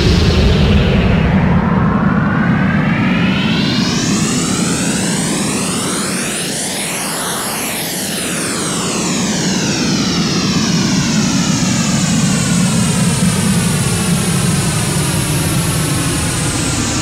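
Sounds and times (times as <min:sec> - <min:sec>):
synthesized jet sound with phasing: 0:00.0 - 0:17.0.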